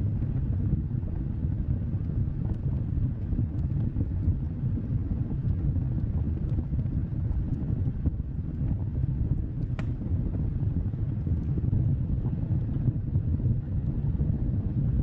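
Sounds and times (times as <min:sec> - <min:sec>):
fire crackles: 0:00.0 - 0:14.1
low rumble of flames: 0:00.0 - 0:15.0.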